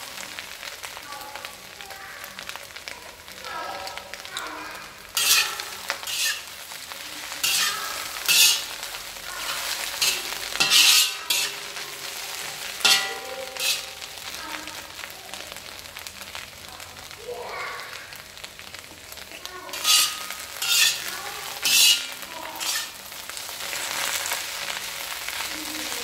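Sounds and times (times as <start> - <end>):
food sizzling in a hot pan: 0.0 - 26.0.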